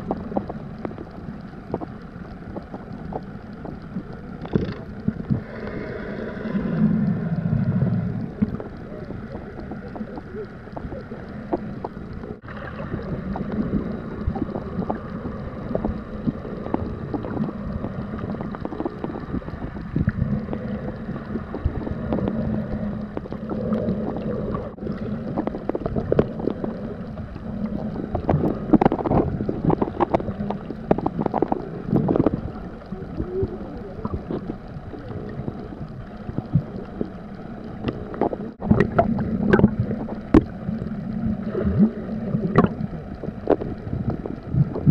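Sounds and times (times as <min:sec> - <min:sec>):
sea water sloshing and gurgling: 0:00.0 - 0:44.9
small clicks: 0:00.0 - 0:44.9
water splashes: 0:00.0 - 0:44.9.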